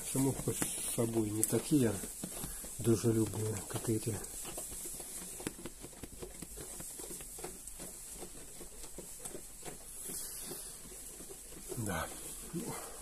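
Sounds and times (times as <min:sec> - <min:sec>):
sheep shuffling and rustling: 0:00.0 - 0:13.0.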